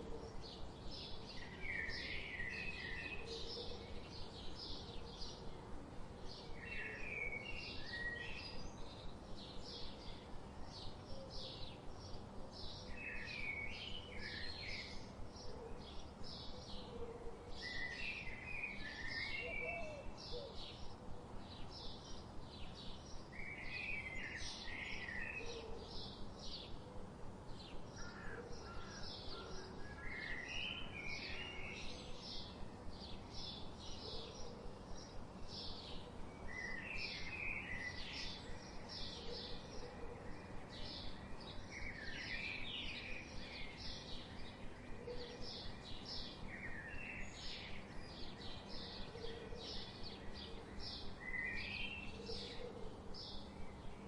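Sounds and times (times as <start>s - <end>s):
background hiss: 0.0s - 54.0s
songbirds chirping: 0.0s - 54.0s.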